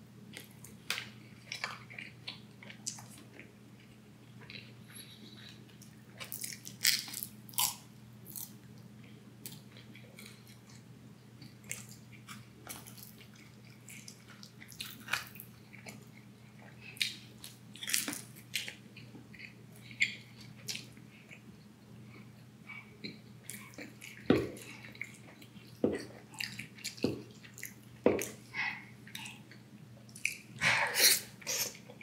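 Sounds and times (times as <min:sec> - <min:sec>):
faint low hum: 0:00.0 - 0:32.0
person chewing pizza: 0:00.3 - 0:32.0.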